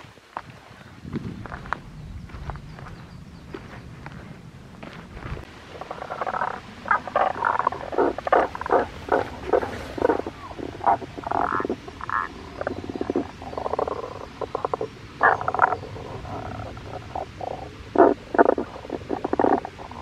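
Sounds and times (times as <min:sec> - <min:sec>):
frogs croaking: 0:00.2 - 0:20.0.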